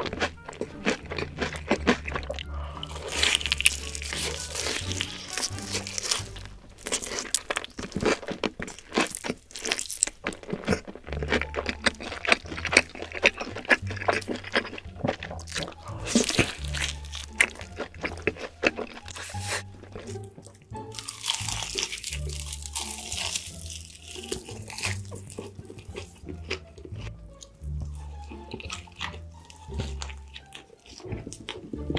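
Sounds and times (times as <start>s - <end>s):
background music with bass: 0.0s - 7.4s, 11.1s - 31.9s
crunchy food being chewed: 0.0s - 31.9s.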